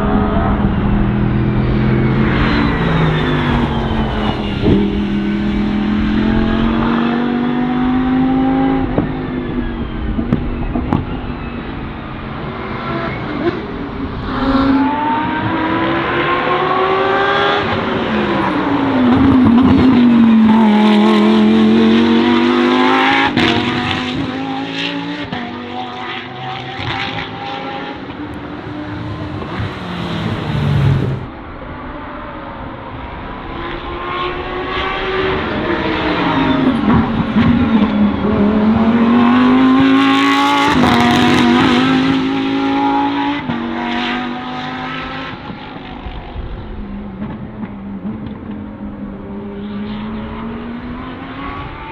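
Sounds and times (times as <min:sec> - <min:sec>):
race cars passing at high revs: 0:00.0 - 0:51.9.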